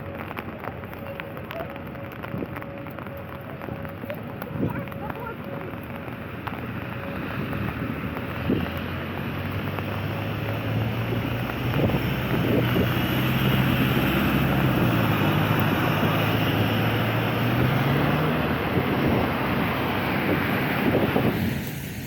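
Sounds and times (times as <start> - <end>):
low engine hum: 0.0 - 22.0
tyre hiss on wet street: 0.0 - 22.0.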